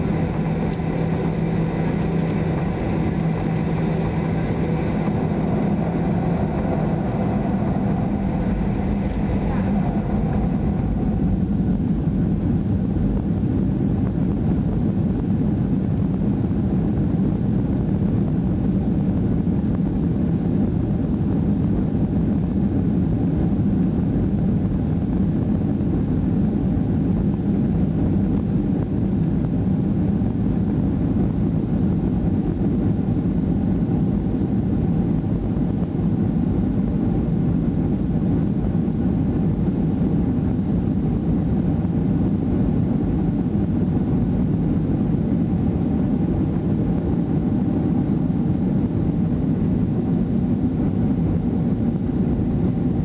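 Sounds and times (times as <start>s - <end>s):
jet engine cabin drone: 0.0s - 53.0s.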